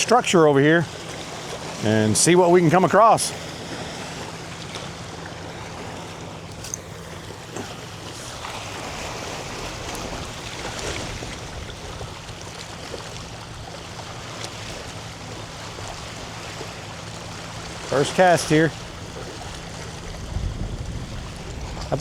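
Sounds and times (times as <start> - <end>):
water washing at shoreline: 0.0 - 22.0
wind: 0.0 - 22.0.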